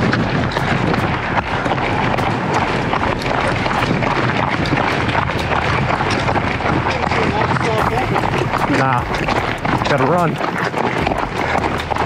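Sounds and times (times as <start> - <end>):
running footsteps on pavement: 0.0 - 12.0
wind on microphone: 0.0 - 12.0.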